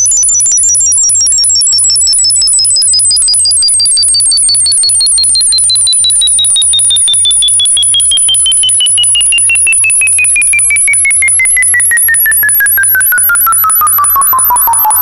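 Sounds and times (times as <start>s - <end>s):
low pulsing beat: 0.0s - 15.0s
short beeps: 0.0s - 15.0s
tone sliding down in pitch: 1.2s - 15.0s.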